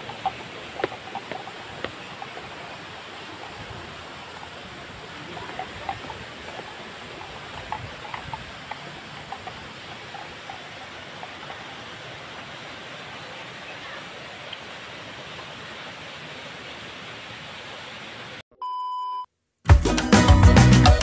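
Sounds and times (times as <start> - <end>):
outdoor background hiss: 0.0 - 18.4.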